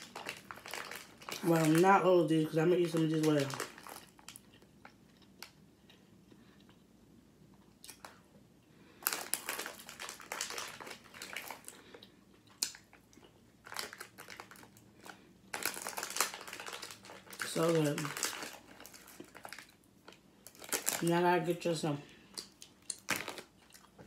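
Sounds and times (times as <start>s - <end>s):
person chewing and eating: 3.6s - 21.0s, 22.0s - 24.0s.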